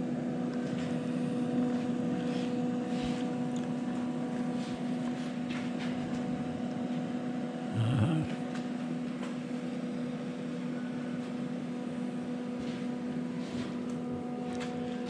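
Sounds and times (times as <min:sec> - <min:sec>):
welder electrical hum: 0:00.0 - 0:15.0.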